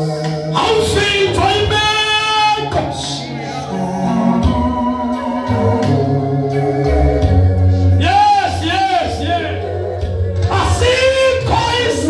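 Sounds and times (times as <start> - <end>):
voices singing long notes: 0.0 - 12.0.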